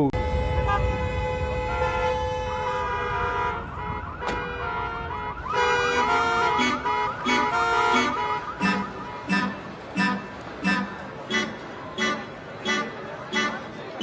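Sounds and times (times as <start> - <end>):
musical vehicle horn playing a tune: 0.2 - 13.8.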